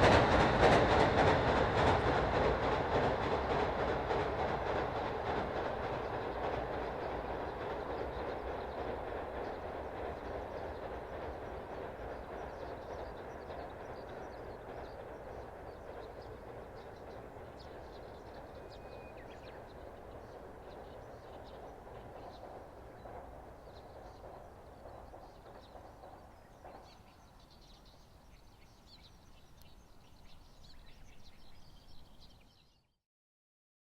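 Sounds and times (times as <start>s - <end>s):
train rumble and rail clatter: 0.0s - 32.8s
birds chirping: 2.1s - 32.9s.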